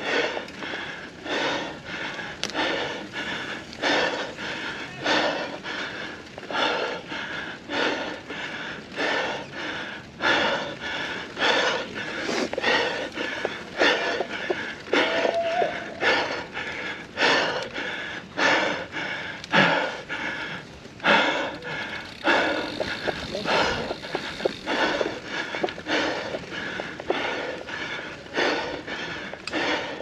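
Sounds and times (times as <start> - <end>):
person panting hard: 0.0 - 30.0
wheezing breath: 0.0 - 30.0.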